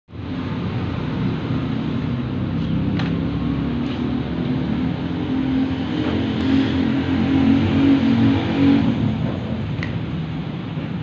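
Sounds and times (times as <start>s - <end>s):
engine-like rumble: 0.1s - 11.0s.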